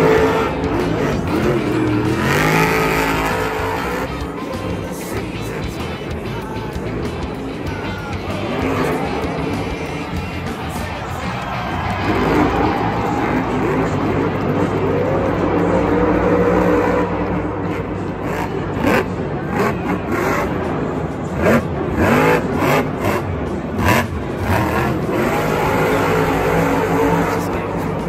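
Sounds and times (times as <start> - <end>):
truck engines revving hard: 0.0 - 28.0.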